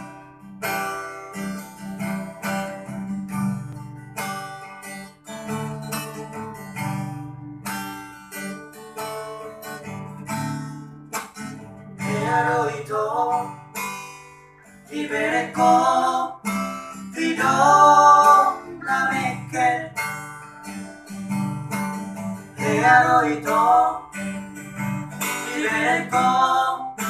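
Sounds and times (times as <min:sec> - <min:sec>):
classical guitar strummed: 0:00.0 - 0:27.0.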